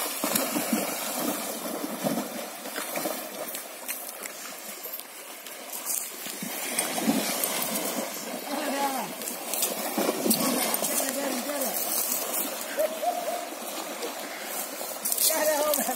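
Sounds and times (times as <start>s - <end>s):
horse splashing through water: 0.0s - 15.9s.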